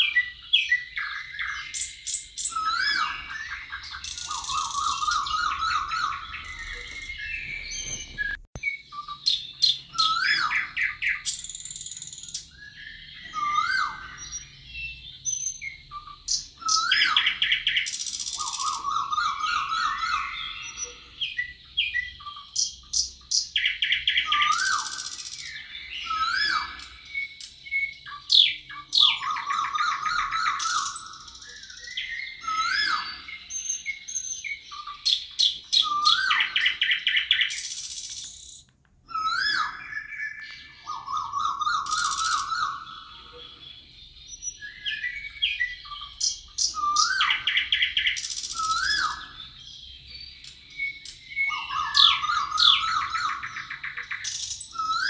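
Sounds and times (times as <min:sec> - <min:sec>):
forest birds singing: 0:00.0 - 0:55.0.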